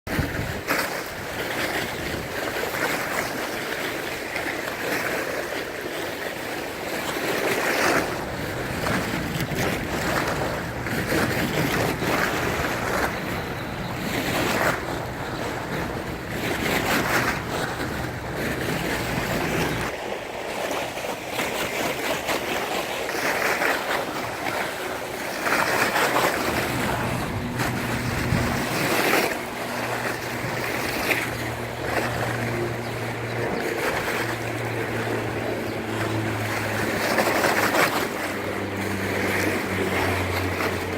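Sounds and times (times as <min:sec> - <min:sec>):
wind buffeting microphone: 0:00.1 - 0:04.8, 0:06.8 - 0:20.0, 0:23.5 - 0:40.9
waves splashing against boardwalk: 0:00.1 - 0:40.9.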